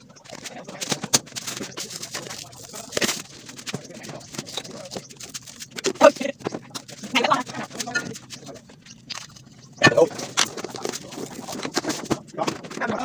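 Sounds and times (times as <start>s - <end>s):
hands handling plastic box: 0.2s - 13.0s.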